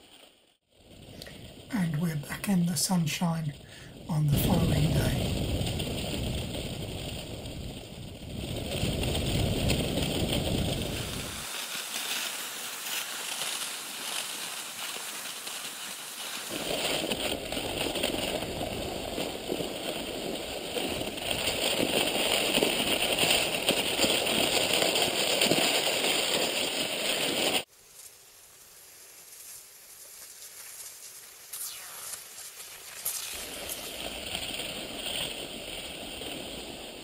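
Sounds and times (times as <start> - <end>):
skis sliding on snow: 1.2 - 37.0.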